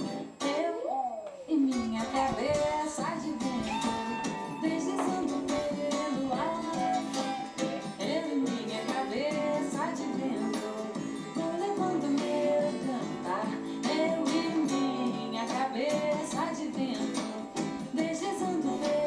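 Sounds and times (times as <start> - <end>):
person singing: 0.0 - 19.0.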